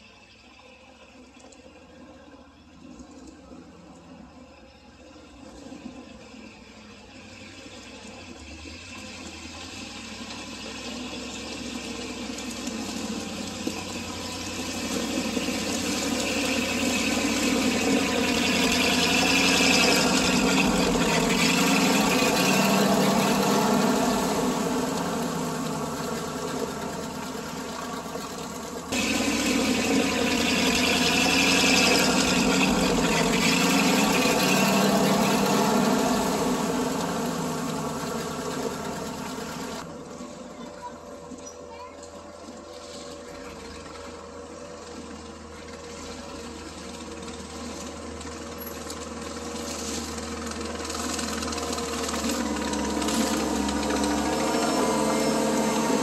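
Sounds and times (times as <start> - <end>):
motor humming: 2.8 - 56.0.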